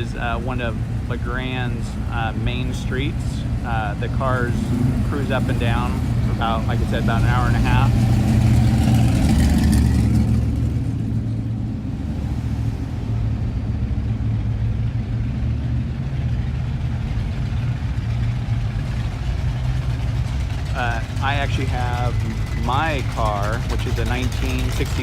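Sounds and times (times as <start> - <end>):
cars passing with engine drone: 0.0 - 25.0.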